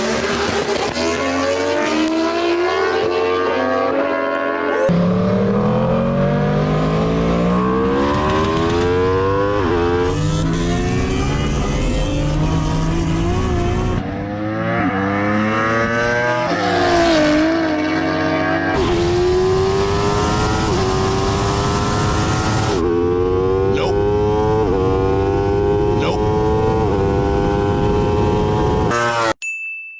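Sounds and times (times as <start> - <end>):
car engine accelerating: 0.0 - 29.3
motorbike engine accelerating: 0.0 - 29.4.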